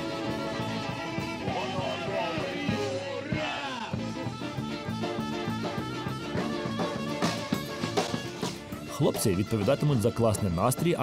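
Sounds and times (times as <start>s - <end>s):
sliding trumpet notes: 0.0s - 3.0s, 4.0s - 11.0s
band playing upbeat rock: 0.0s - 11.0s.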